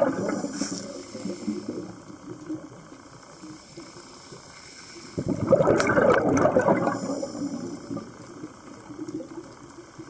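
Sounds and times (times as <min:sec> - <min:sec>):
underwater bubbles gurgling: 0:00.0 - 0:10.0.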